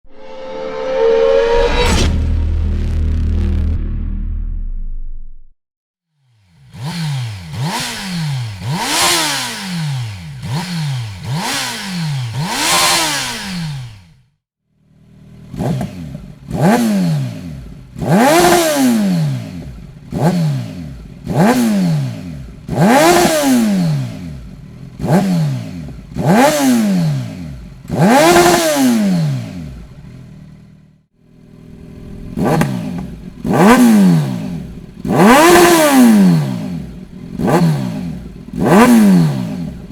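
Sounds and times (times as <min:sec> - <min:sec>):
motorcycle engine revving: 0:06.2 - 0:39.9.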